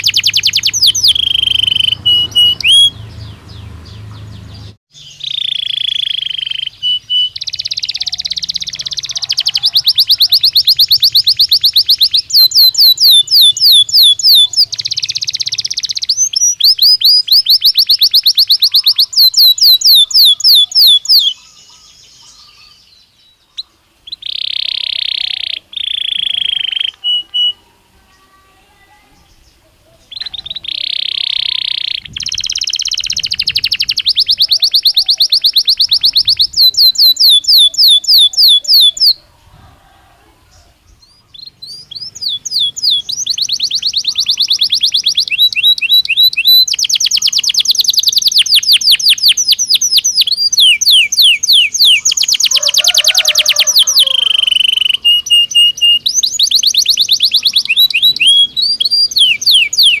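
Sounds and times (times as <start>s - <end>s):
canary singing rapid trills: 0.0s - 28.3s, 29.2s - 39.3s, 40.9s - 60.0s.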